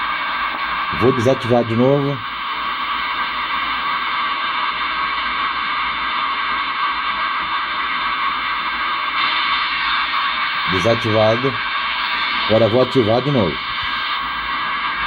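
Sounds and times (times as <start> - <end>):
radio static hissing: 0.0 - 15.0.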